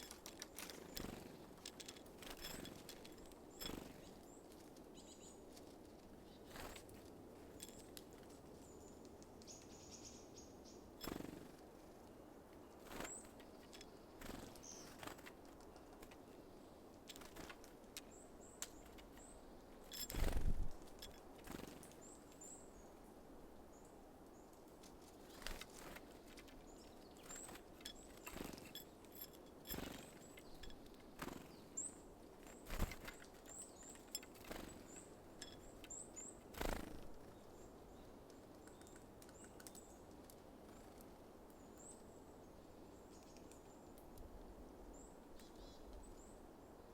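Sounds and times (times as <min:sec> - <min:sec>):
songbirds calling: 0:00.0 - 0:46.9.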